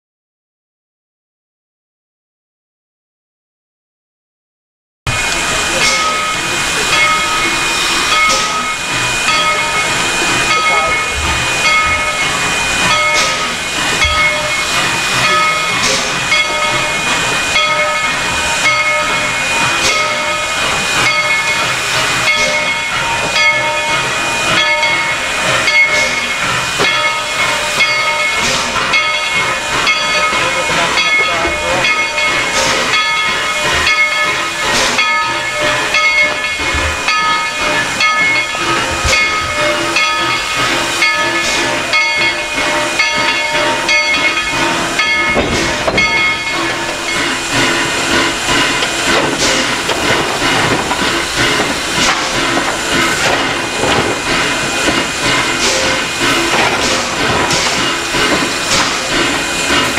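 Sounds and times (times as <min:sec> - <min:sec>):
steam locomotive hissing: 0:05.1 - 0:59.9.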